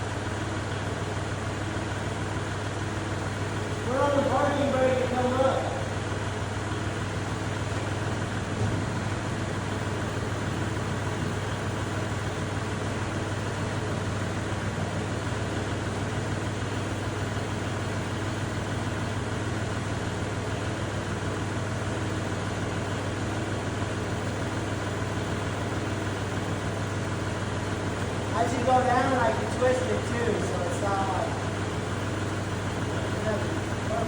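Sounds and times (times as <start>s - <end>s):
tractor diesel engine idling: 0.0s - 34.0s.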